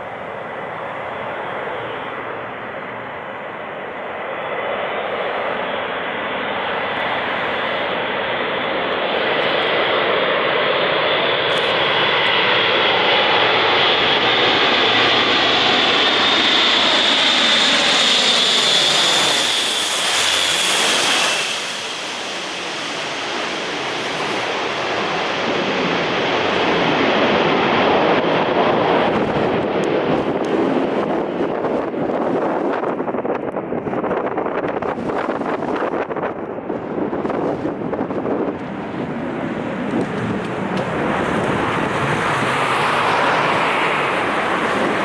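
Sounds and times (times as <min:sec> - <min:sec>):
turboprop aircraft flying past: 0:00.0 - 0:31.9, 0:37.7 - 0:45.0.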